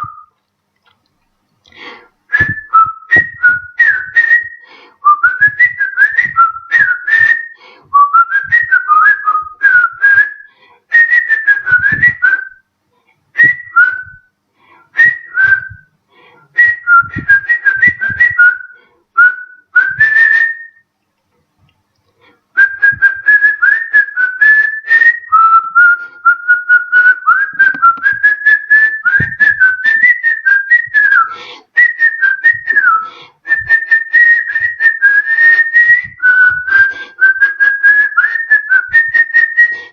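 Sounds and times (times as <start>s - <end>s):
man whistling a melody: 0.0s - 0.4s, 2.3s - 12.7s, 13.4s - 15.9s, 16.5s - 20.9s, 22.6s - 39.9s.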